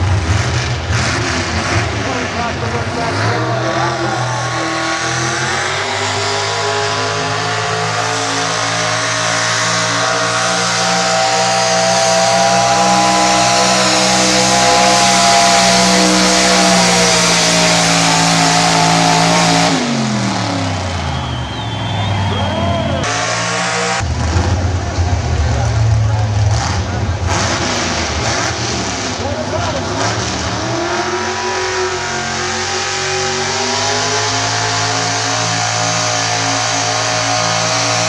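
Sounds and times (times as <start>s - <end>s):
truck engine at full throttle: 0.0s - 38.0s.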